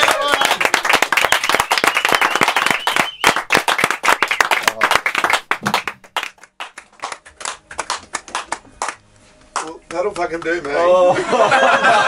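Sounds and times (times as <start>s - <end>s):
people applauding: 0.0s - 9.0s, 9.6s - 11.2s.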